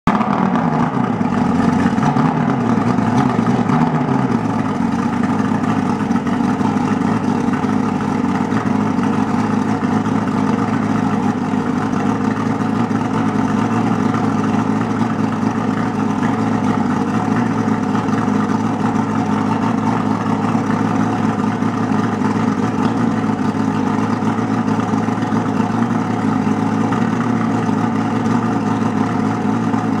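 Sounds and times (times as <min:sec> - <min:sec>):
outboard motor running: 0:00.1 - 0:30.0.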